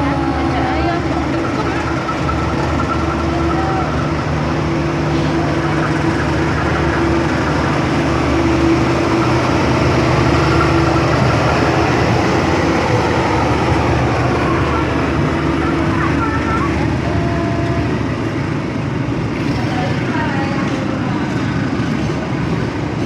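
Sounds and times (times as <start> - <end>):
train engine rumble: 0.0 - 23.0.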